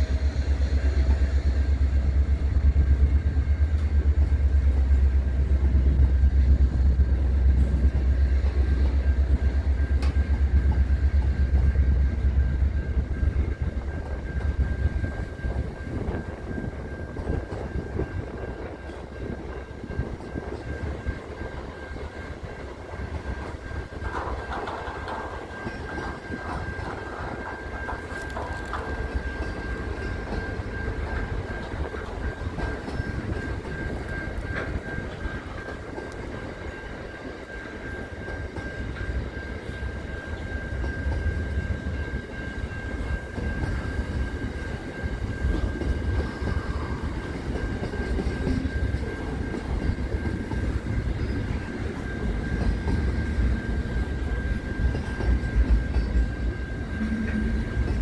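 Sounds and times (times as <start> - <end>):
freight train wagons rumbling: 0.0 - 58.0
steady high tone: 0.0 - 58.0.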